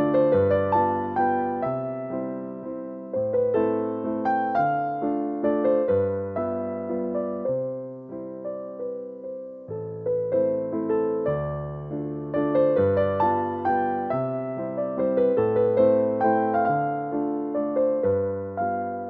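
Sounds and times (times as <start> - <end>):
gentle piano piece: 0.0 - 19.0.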